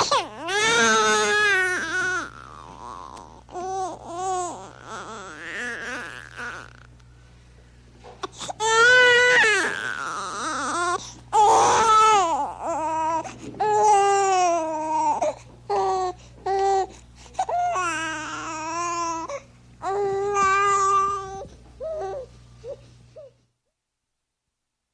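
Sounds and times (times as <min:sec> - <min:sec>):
baby crying: 0:00.0 - 0:06.9, 0:08.2 - 0:23.4.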